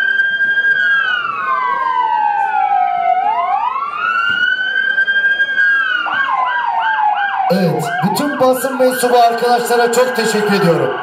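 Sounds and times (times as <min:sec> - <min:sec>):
siren yelp: 0:00.0 - 0:11.0
wailing sirens: 0:00.0 - 0:11.0.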